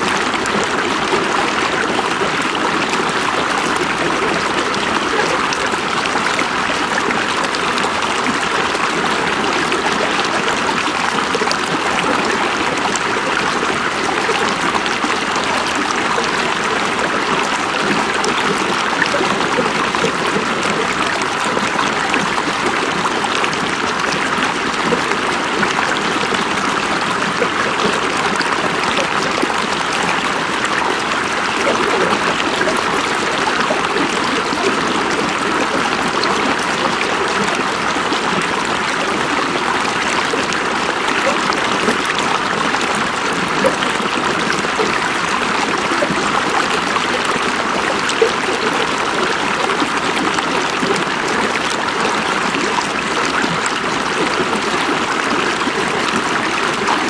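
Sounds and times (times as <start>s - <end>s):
river water flowing over rocks: 0.0s - 57.0s
small water splashes and gurgles: 0.0s - 57.0s.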